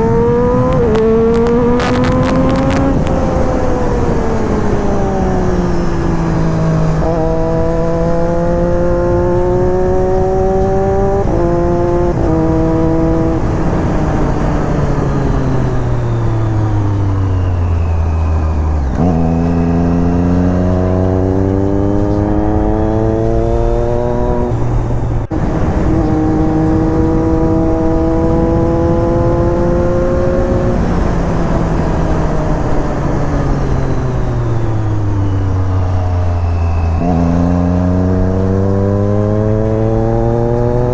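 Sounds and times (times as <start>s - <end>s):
motorcycle engine accelerating: 0.0s - 40.9s
wind rush: 0.0s - 40.9s.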